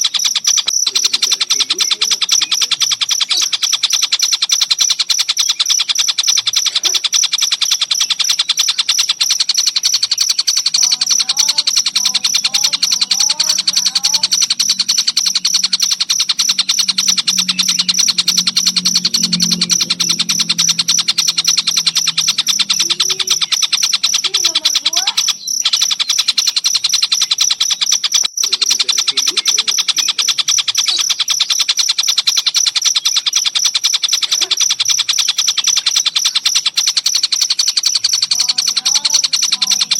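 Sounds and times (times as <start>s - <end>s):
cricket chirping trill: 0.0s - 39.9s.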